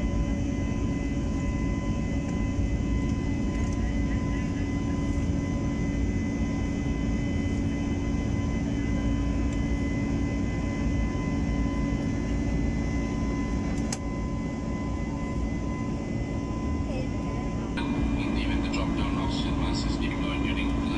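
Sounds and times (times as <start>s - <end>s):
jet engine cabin rumble: 0.0s - 20.9s.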